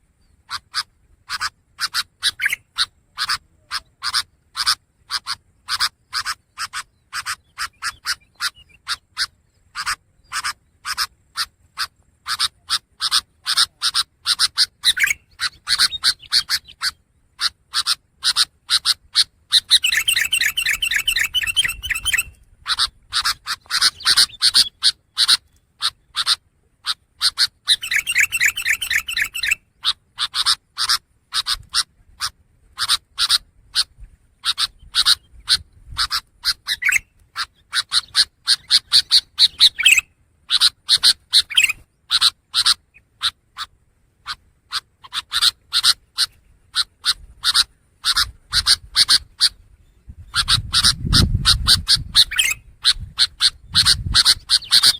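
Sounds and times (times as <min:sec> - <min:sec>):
bird harsh chattering song: 0:00.1 - 0:54.9
bird rapid trill: 0:00.4 - 0:54.9.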